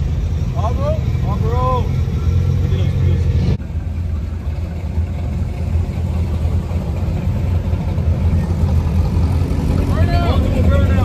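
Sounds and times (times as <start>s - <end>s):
car engines exhaust rumble: 0.0s - 11.0s.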